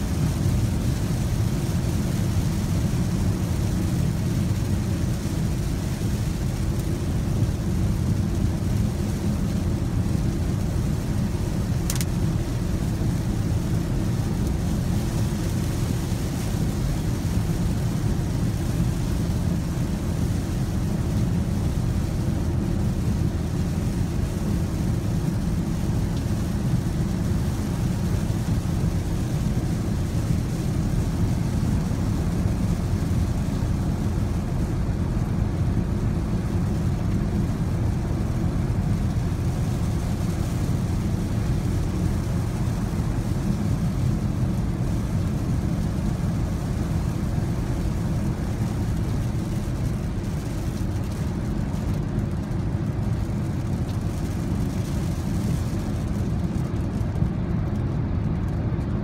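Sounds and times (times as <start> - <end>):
rain and water spray hiss: 0.0 - 59.0.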